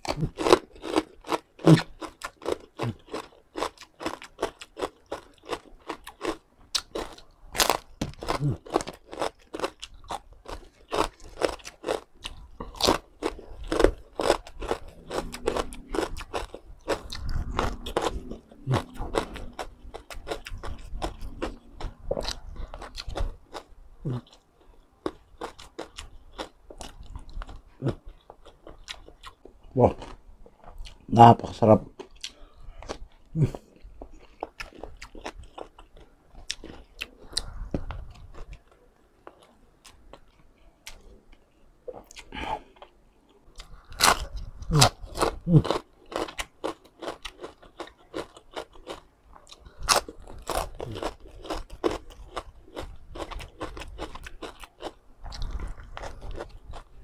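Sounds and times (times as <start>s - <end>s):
crunching and chewing crispy food: 0.0s - 57.0s.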